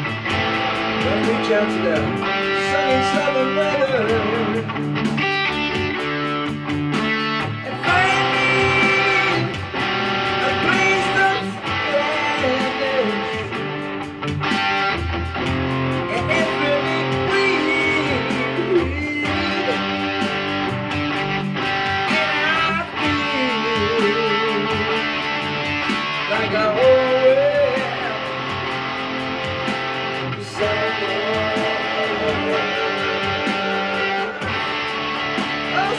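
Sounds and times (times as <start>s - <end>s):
bass guitar: 0.0s - 35.9s
electric guitar bending notes: 0.0s - 35.9s.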